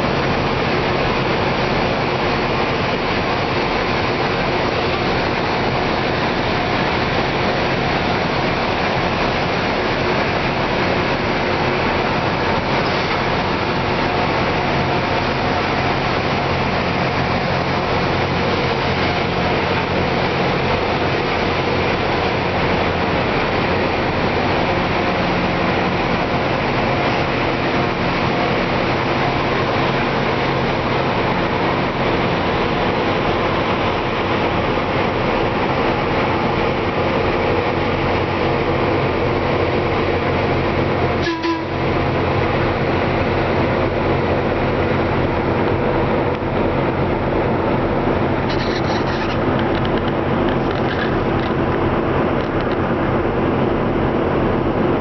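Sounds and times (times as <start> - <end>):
rail grinder grinding: 0.0 - 54.3
diesel engines droning: 0.0 - 55.0.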